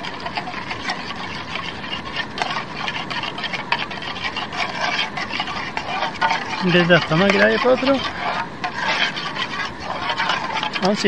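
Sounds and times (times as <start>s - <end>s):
spoon scraping metal pot: 0.0s - 11.0s.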